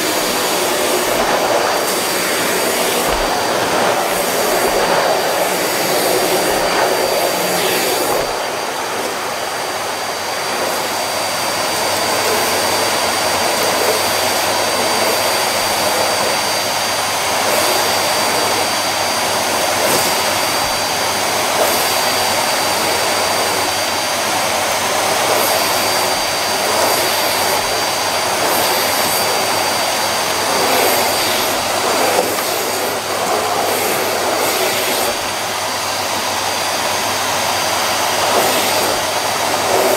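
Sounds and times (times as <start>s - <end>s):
vacuum cleaner running: 0.0s - 39.9s
vacuum head pushed over carpet: 0.0s - 39.9s.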